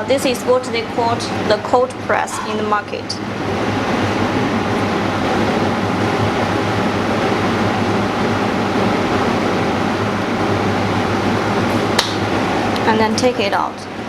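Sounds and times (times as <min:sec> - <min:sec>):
workshop machinery hum and hiss: 0:00.0 - 0:14.0.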